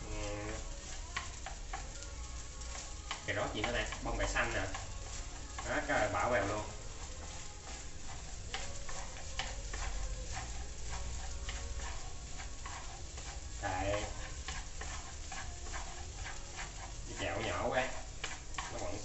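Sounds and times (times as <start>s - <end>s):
chopsticks scraping a frying pan: 0.0s - 19.0s
light sizzle: 0.0s - 19.0s.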